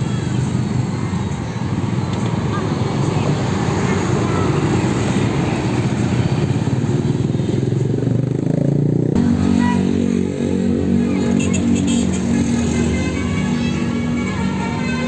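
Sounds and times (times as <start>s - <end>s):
motorcycle engines passing: 0.0s - 15.0s
steady engine drone: 0.0s - 15.0s.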